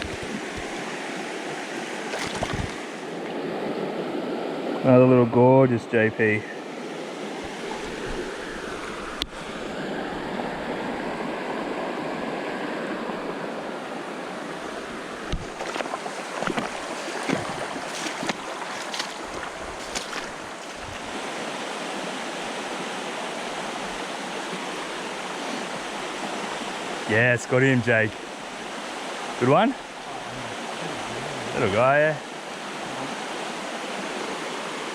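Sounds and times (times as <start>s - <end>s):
creek water flowing: 0.0s - 34.9s.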